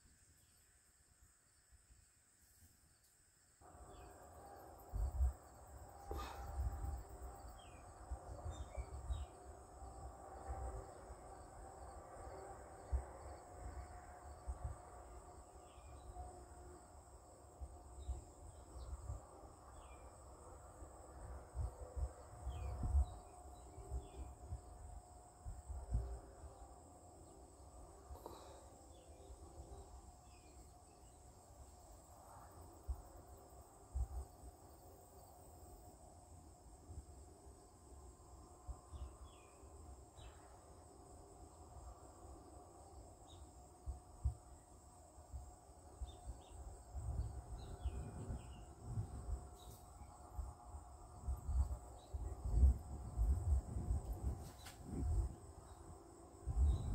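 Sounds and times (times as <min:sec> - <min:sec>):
insects trilling: 0:02.4 - 0:56.9.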